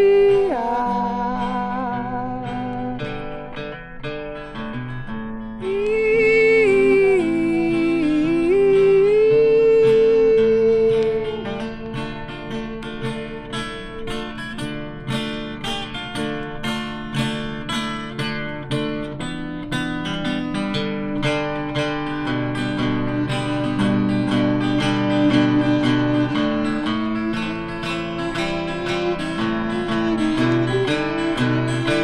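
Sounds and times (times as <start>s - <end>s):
acoustic guitar picking: 0.0s - 32.0s.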